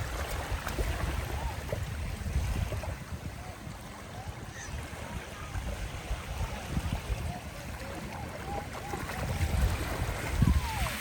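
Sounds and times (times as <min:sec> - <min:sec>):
sea waves washing on shore: 0:00.0 - 0:11.0
wind rumbling on microphone: 0:00.0 - 0:11.0.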